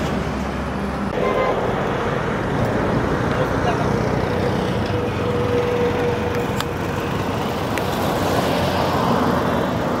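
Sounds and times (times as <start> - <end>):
vehicle road noise: 0.0 - 10.0.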